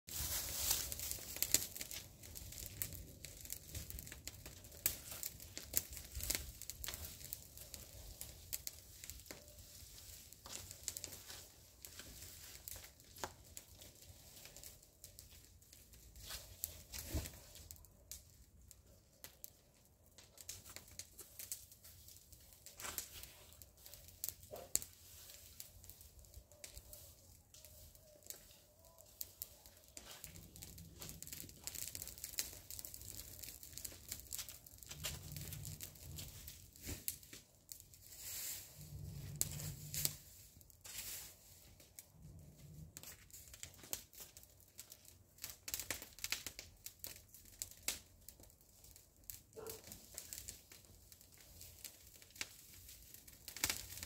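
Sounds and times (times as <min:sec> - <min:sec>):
dry leaves crackling and rustling: 0:00.1 - 0:54.0.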